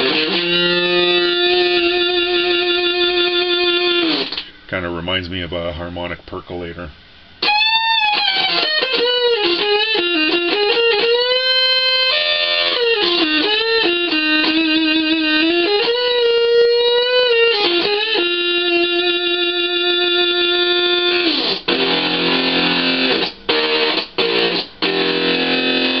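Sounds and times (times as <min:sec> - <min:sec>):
fuzzed electric guitar: 0:00.0 - 0:04.8, 0:06.0 - 0:26.0.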